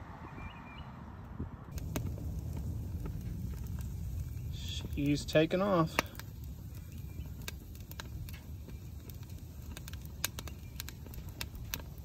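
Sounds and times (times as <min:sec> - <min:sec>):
low steady rumble: 0:01.0 - 0:12.0
wood fire crackling and popping: 0:01.7 - 0:12.0.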